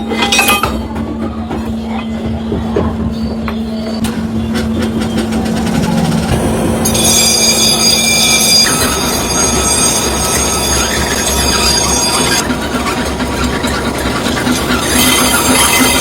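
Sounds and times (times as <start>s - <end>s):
workshop machinery noise: 0.0s - 16.0s
high-pitched metallic squeal: 3.1s - 16.0s.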